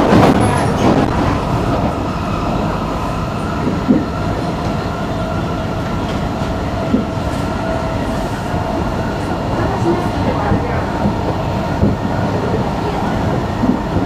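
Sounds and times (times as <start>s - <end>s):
train rumble inside car: 0.0s - 14.0s.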